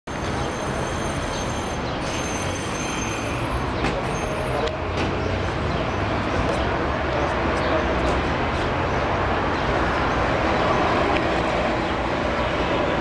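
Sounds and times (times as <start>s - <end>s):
street traffic: 0.1s - 13.0s.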